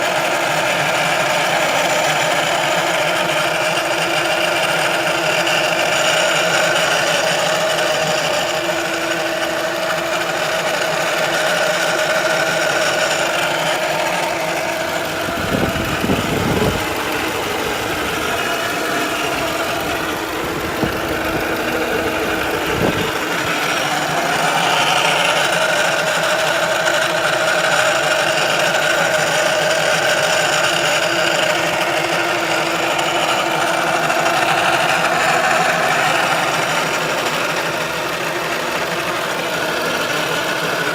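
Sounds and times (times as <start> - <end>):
car engine idling with whining hum: 0.0 - 40.9.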